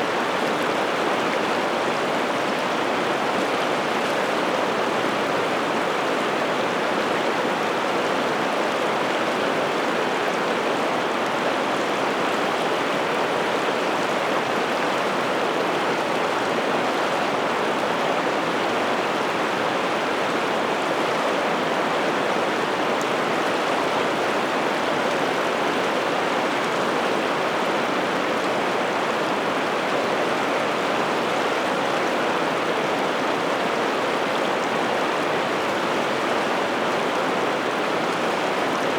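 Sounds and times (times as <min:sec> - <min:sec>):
river water rushing over rapids: 0:00.1 - 0:38.9.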